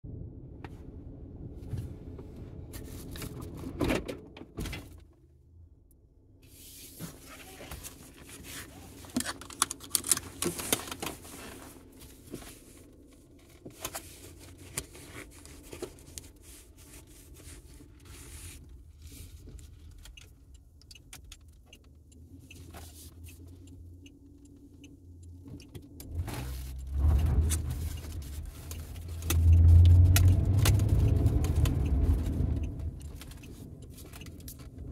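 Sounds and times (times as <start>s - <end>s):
car rumbling: 0.0s - 34.9s.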